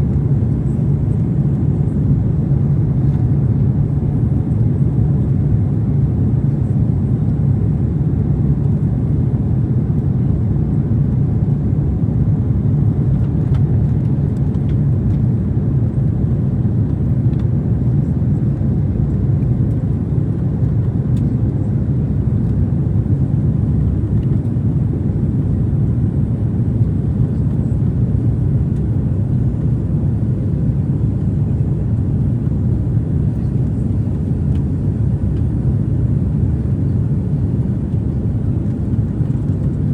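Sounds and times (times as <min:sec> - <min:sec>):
jet engines and airflow rushing: 0:00.0 - 0:39.9.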